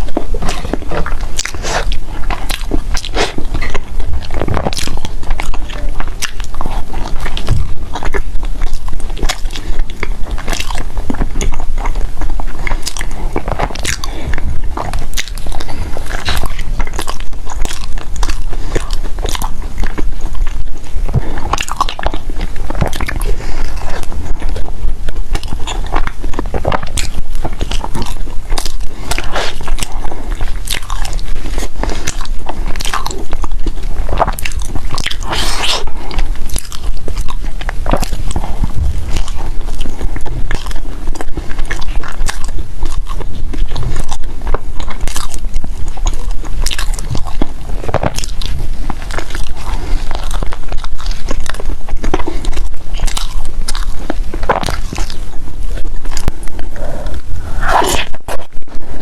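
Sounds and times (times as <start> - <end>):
crunchy chewing of food: 0.0 - 59.0.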